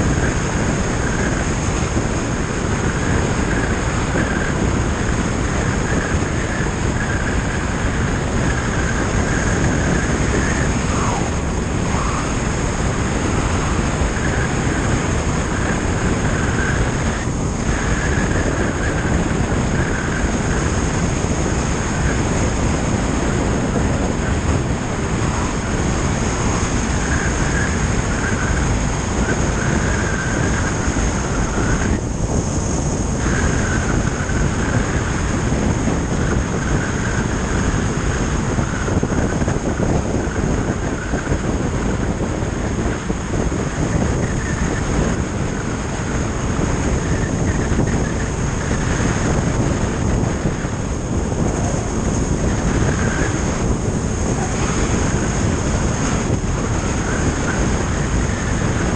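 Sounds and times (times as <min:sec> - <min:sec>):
thin high whine: 0:00.0 - 0:35.8, 0:40.7 - 0:58.9
motorcycle cruising: 0:00.0 - 0:58.9
wind rushing: 0:00.0 - 0:58.9.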